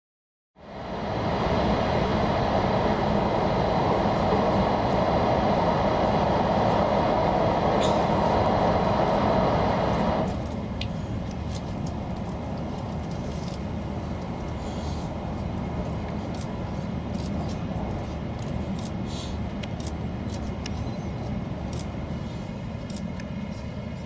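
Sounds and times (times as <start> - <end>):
train running noise in cabin: 0.6 - 24.0.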